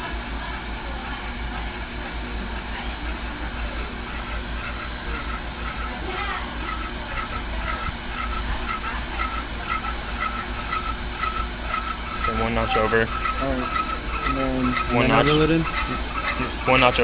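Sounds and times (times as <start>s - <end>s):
brake lathe humming: 0.0s - 17.0s.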